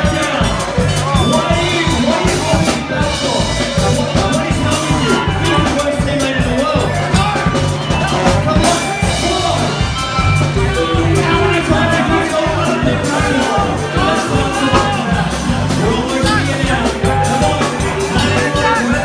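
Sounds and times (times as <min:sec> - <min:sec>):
bass line: 0:00.0 - 0:19.0
drum kit beat: 0:00.0 - 0:19.0
loud band music: 0:00.0 - 0:19.0.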